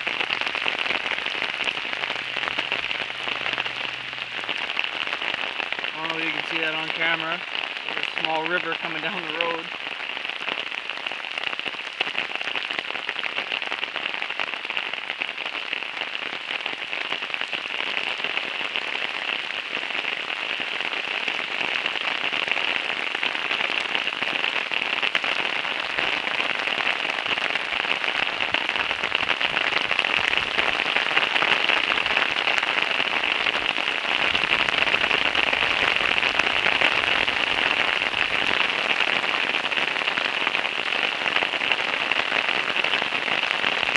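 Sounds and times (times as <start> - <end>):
heavy rain on street: 0.0 - 43.9.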